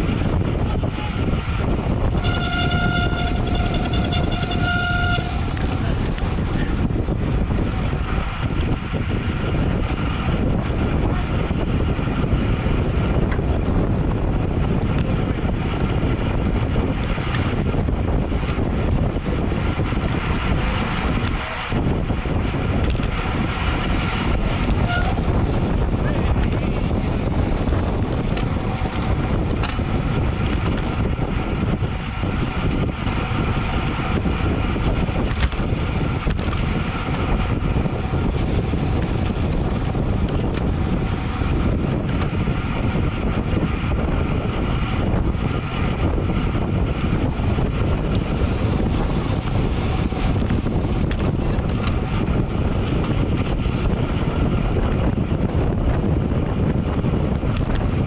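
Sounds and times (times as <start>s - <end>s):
tyre and road noise: 0.0s - 58.0s
wind rushing over microphone: 0.0s - 58.0s.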